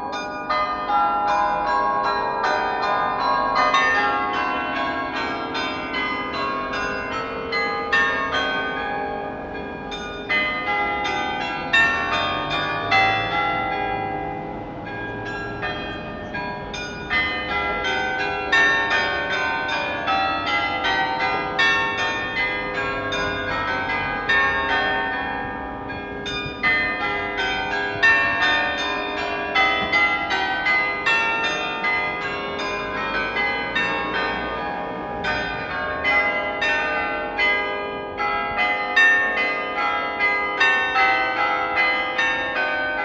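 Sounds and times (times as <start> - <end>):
carillon bells playing a tune: 0.0 - 43.0.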